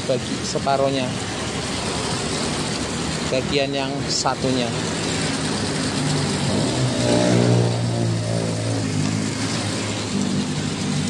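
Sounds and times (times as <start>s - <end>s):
washing machine motor hum: 0.0s - 11.0s
water churning: 0.0s - 11.0s.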